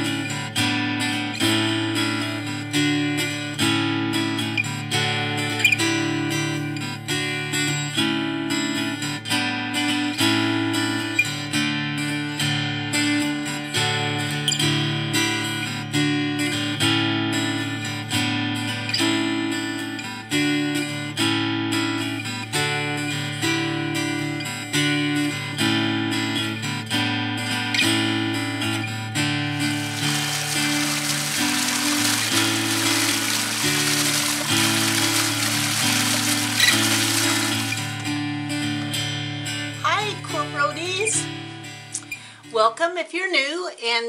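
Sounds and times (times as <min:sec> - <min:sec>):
acoustic guitar music: 0:00.0 - 0:43.5.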